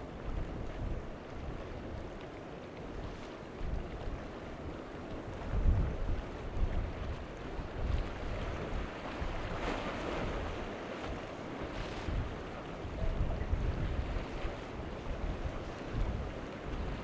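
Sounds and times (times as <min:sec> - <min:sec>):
wind buffeting microphone: 0:02.9 - 0:17.0.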